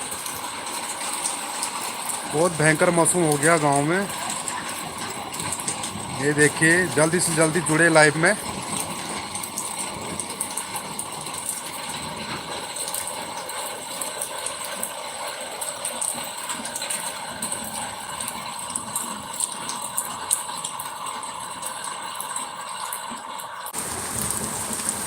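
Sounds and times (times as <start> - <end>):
rain and hail falling: 0.0 - 25.0.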